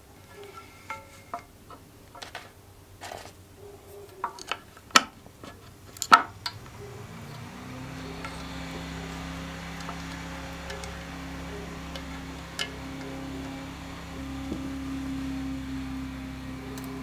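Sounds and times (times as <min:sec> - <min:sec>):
low background hum: 0:00.0 - 0:17.0
metal tools clinking: 0:00.1 - 0:03.3, 0:04.1 - 0:17.0.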